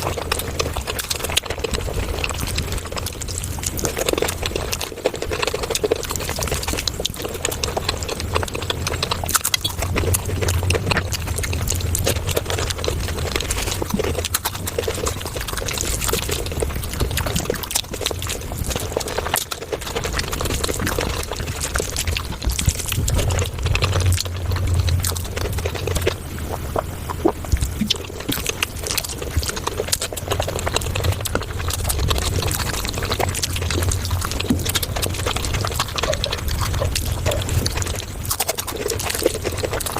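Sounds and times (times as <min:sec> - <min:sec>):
rapid wet chewing: 0:00.0 - 0:39.9.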